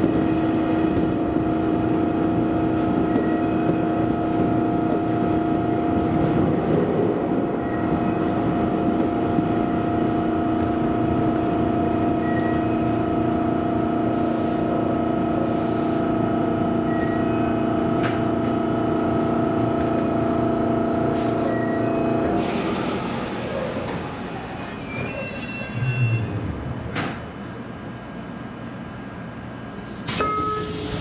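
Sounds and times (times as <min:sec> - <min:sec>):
wheels rumbling on rails: 0:00.0 - 0:28.3.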